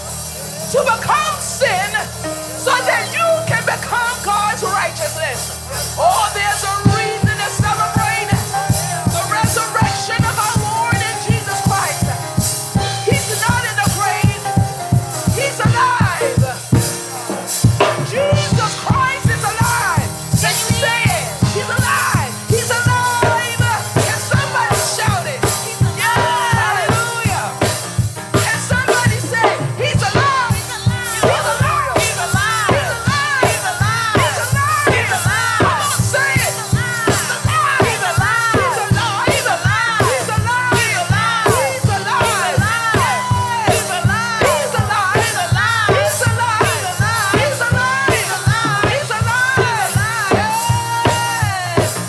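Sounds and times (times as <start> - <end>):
bass: 0.0 - 52.0
drum beat: 0.0 - 52.0
voices singing: 0.0 - 52.0.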